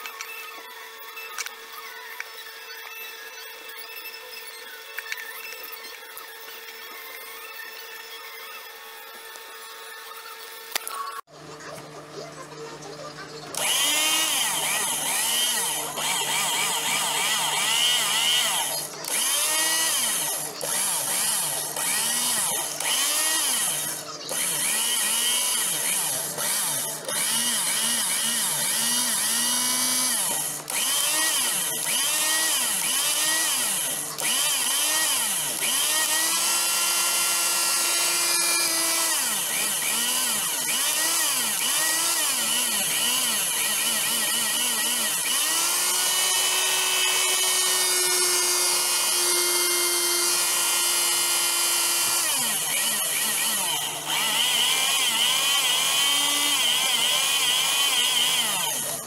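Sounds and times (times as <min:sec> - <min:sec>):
mixer grinder motor wavering: 0:00.0 - 0:59.0.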